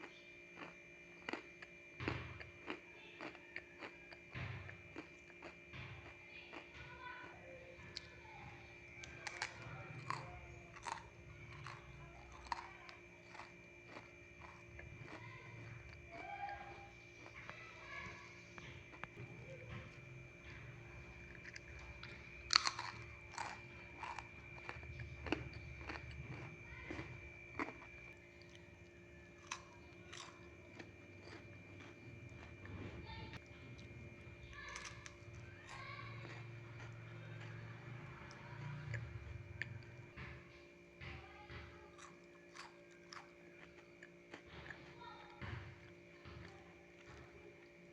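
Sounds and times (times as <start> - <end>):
person chewing crunchy food: 0.0 - 7.3, 8.8 - 40.3, 41.9 - 47.4
faint steady hum: 0.0 - 47.9.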